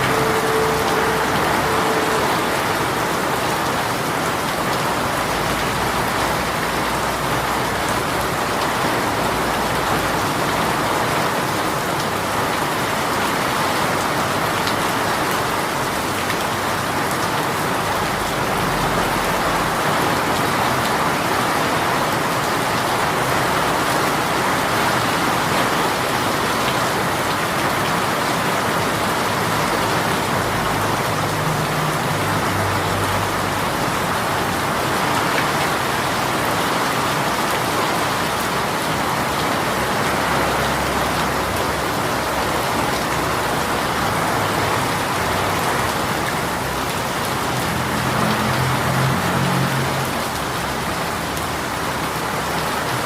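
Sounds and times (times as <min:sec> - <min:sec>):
rain pattering: 0:00.0 - 0:53.0.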